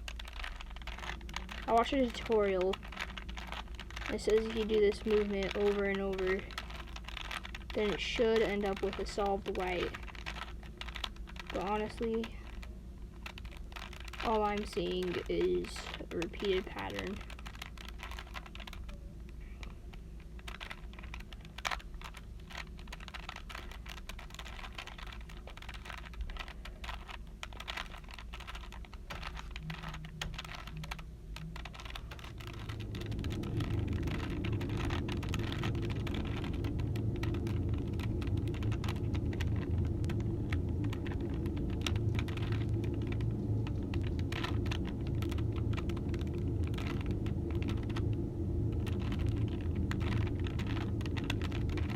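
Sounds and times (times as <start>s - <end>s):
puzzle cube clicking: 0.0s - 51.9s
steady low hum: 0.0s - 51.9s.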